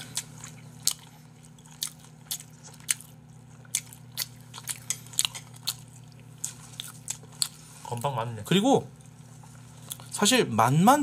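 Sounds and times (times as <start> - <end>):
person crunchy chewing: 0.0 - 8.1, 9.0 - 10.2.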